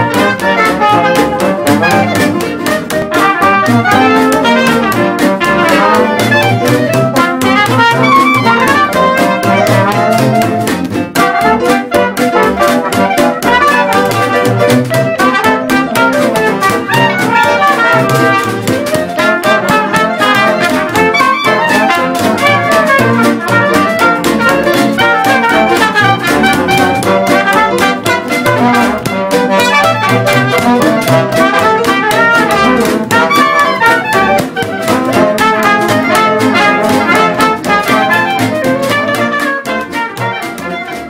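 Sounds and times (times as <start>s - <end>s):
brass-led jazz music: 0.0s - 41.0s.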